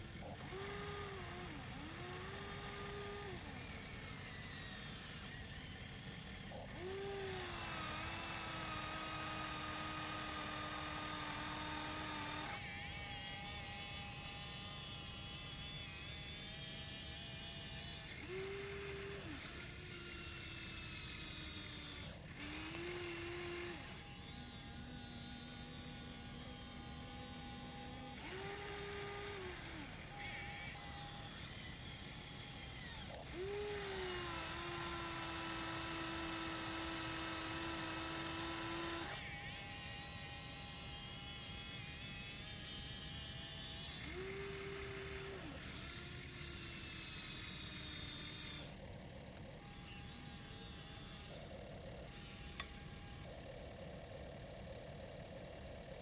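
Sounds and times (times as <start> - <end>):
electric motors whining: 0.0 - 56.0.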